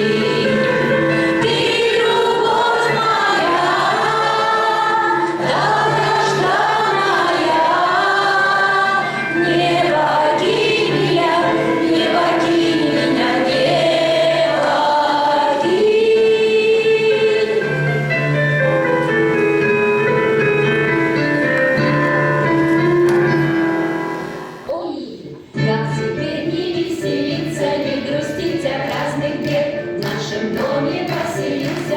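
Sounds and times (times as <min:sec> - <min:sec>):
choir singing with accompaniment: 0:00.0 - 0:24.7, 0:25.7 - 0:31.9.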